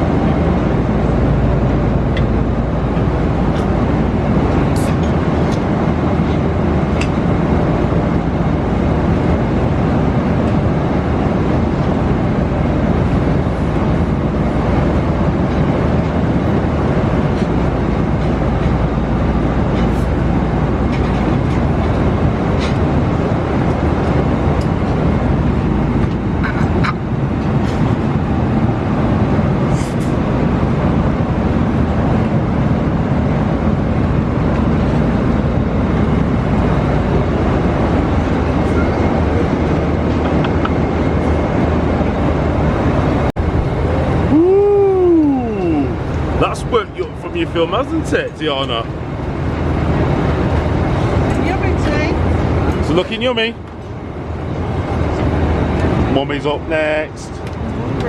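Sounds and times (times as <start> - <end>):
airliner cabin roar: 0.0 - 58.0.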